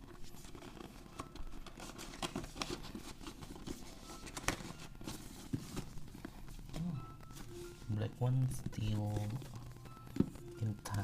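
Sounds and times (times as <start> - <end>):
packaging clicks and crinkles: 0.0 - 11.0.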